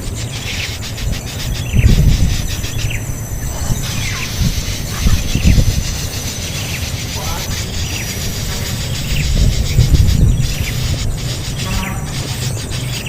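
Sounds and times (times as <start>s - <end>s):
high falling bird chirps: 0.0s - 13.0s
loud low rumbling: 0.0s - 13.0s.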